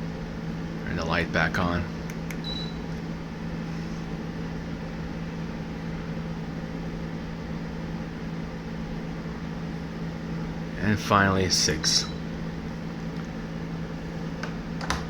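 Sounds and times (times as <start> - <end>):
ceiling fan and air conditioner hum: 0.0 - 15.0.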